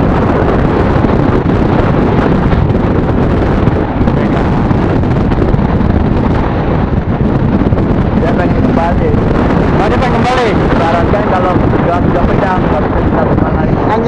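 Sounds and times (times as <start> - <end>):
road noise: 0.0 - 14.0
wind on microphone: 0.0 - 14.0.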